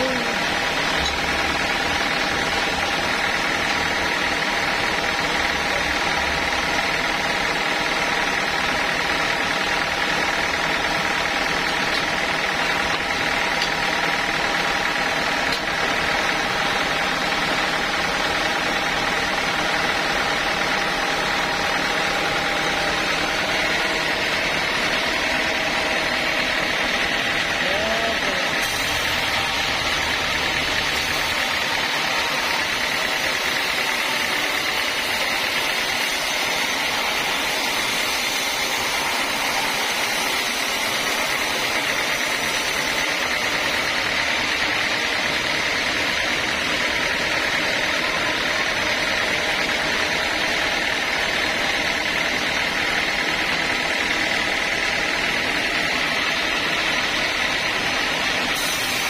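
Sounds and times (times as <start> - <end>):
sawmill machine running: 0.0 - 59.0.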